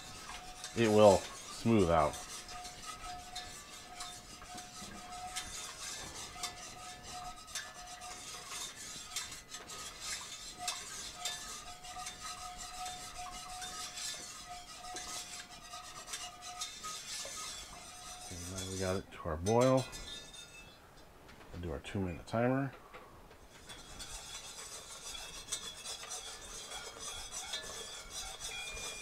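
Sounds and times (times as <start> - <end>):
whisk scraping in pot: 0.0 - 20.8, 23.5 - 29.0.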